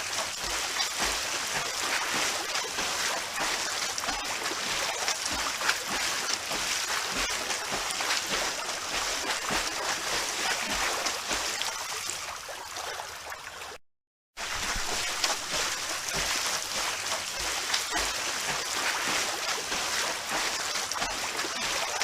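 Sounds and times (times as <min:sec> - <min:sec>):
swimming splashes in pool: 0:00.0 - 0:13.8, 0:14.4 - 0:22.0.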